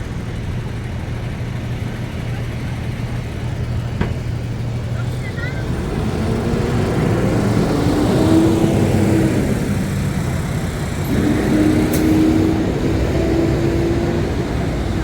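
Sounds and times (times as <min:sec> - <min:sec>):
city traffic passing: 0:00.0 - 0:15.0
held low vehicle tone: 0:00.0 - 0:15.0.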